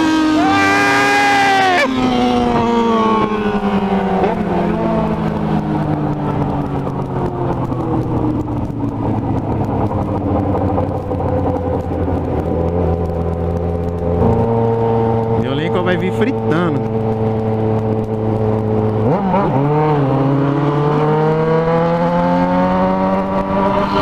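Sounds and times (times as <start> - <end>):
motorcycle engine running at low revs: 0.0 - 24.0.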